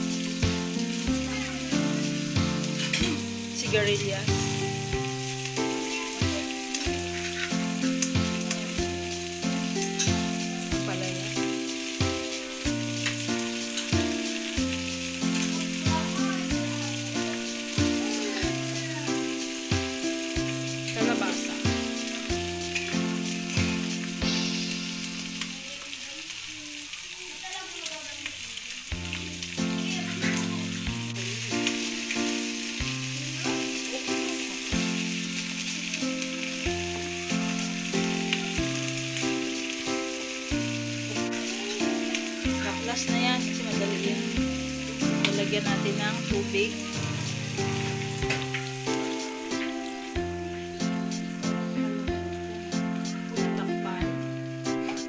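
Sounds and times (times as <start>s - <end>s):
background music: 0.0s - 25.4s, 29.3s - 55.0s
food sizzling in hot oil: 0.0s - 55.0s.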